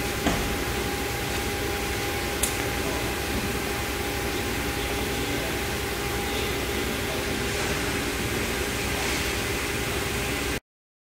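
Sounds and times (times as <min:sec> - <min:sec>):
faint steady whine: 0:00.0 - 0:10.6
machinery hum and hiss: 0:00.0 - 0:10.6.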